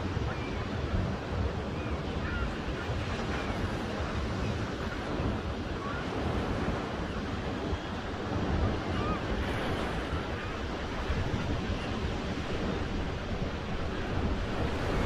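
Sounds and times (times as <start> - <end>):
ocean surf breaking on beach: 0.0 - 15.0
wind on microphone: 0.0 - 15.0.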